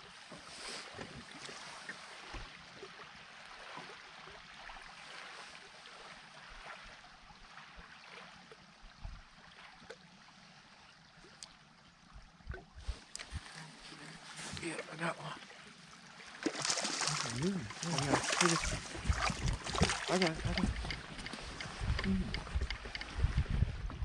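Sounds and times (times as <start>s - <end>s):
waves lapping against boat hull: 0.0s - 24.0s.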